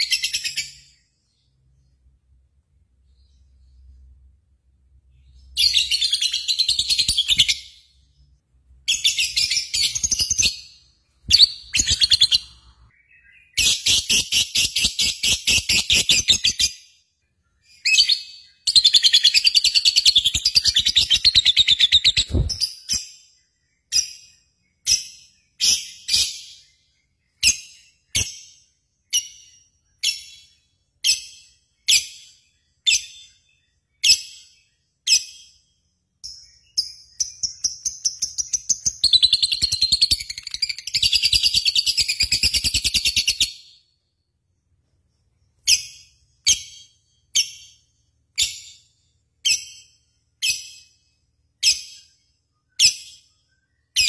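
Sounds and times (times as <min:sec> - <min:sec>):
bird chirping and trilling: 0:00.0 - 0:02.2, 0:05.0 - 0:44.2, 0:45.0 - 0:54.0.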